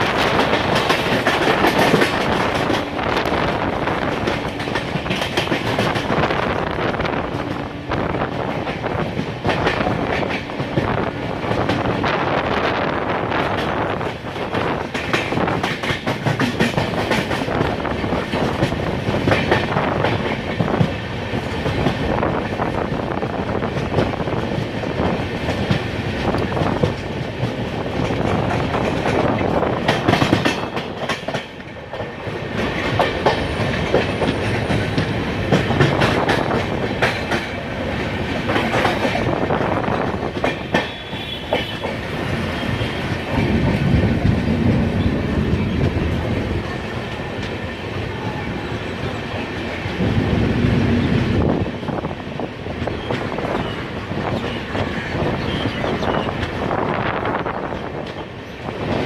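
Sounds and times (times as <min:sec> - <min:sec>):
train wheels clattering over rail joints: 0:00.0 - 0:48.0.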